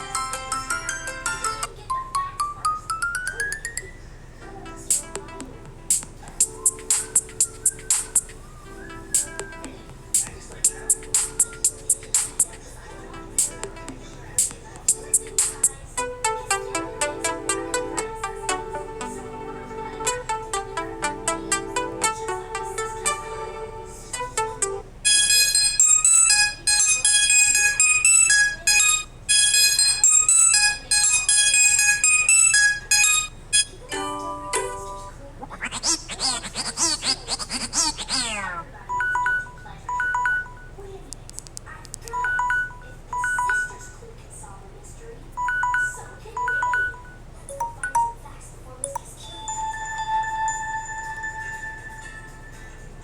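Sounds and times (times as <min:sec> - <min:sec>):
electronic ringtone melody: 0:00.0 - 0:05.5, 0:06.4 - 0:12.5, 0:14.9 - 0:35.2, 0:37.9 - 0:40.7, 0:42.2 - 0:43.8, 0:45.4 - 0:48.2, 0:48.8 - 0:52.8.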